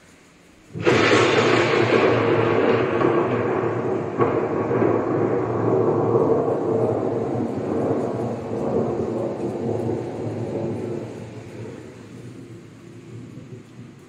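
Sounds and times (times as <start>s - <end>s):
rolling thunder rumble: 0.4s - 14.0s.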